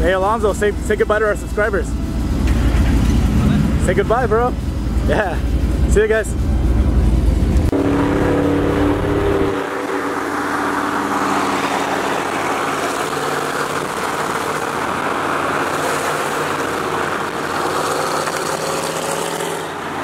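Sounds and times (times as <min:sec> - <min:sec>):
engine drone: 0:00.0 - 0:20.0
road and wind noise: 0:00.0 - 0:20.0.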